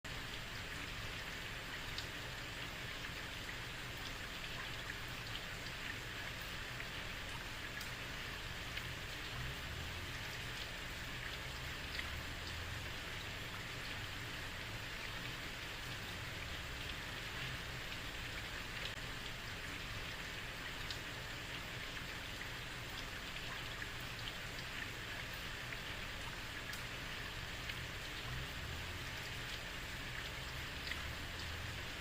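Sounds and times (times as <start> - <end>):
heavy rain on a street: 0.1 - 32.0.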